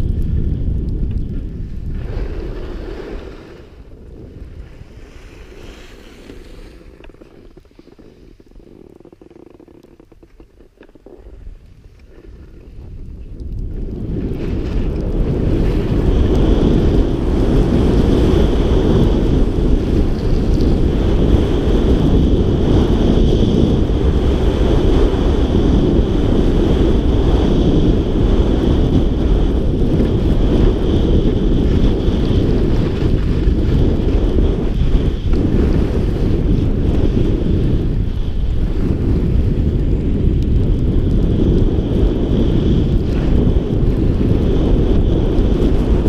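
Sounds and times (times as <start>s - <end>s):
skis gliding on snow: 0.0s - 46.0s
wind buffeting microphone: 0.0s - 46.0s.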